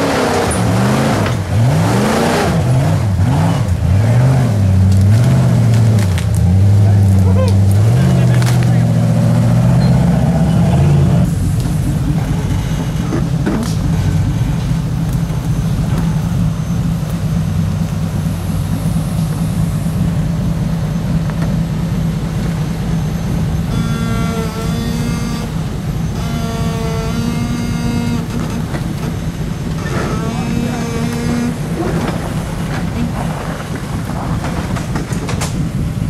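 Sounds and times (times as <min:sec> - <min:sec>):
buggy engine running: 0:00.0 - 0:36.0.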